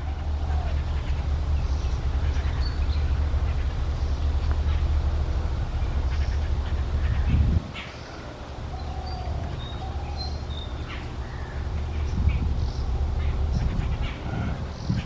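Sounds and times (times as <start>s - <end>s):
birds chattering calls: 0.0s - 15.0s
low rumble: 0.0s - 15.0s.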